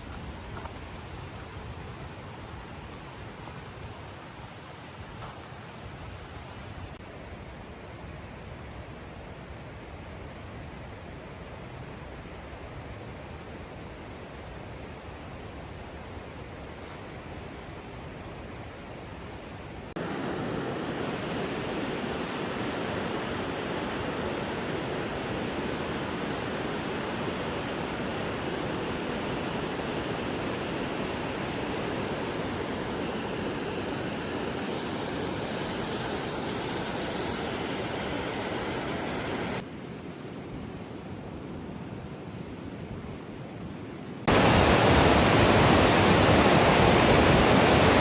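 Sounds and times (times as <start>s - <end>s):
rushing water of creek and waterfall: 0.0s - 48.0s.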